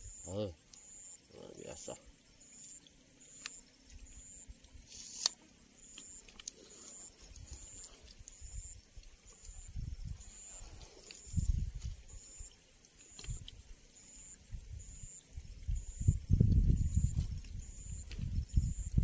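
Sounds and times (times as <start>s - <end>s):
insects buzzing and chirping: 0.0s - 19.0s.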